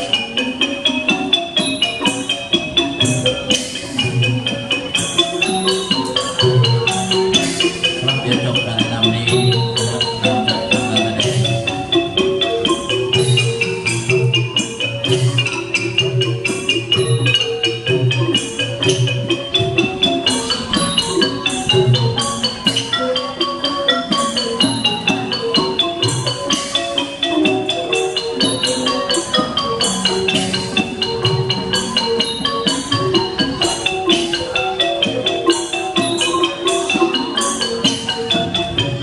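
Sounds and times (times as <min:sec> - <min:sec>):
xylophone rapid mallet strokes: 0:00.0 - 0:39.0.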